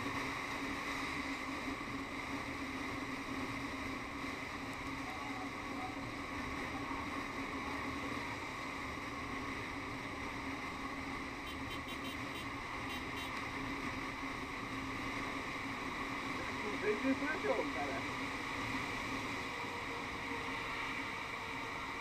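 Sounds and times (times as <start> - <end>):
motorcycle engine hum: 0.0 - 22.0.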